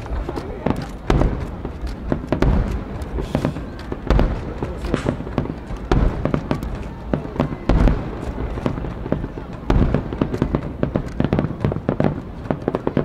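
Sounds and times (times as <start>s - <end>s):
deep firework booms: 0.0s - 13.0s
fireworks bangs and crackles: 0.0s - 13.0s.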